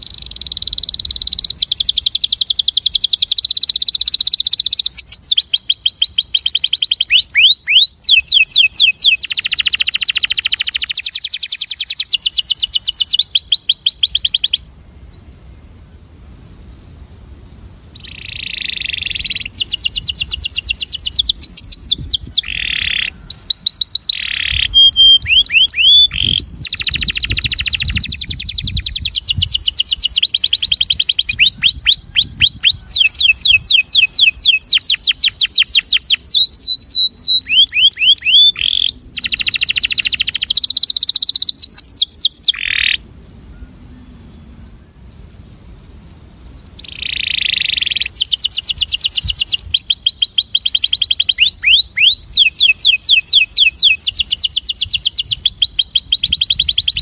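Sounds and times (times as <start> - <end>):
canary singing trills: 0.0 - 15.3, 17.9 - 57.0.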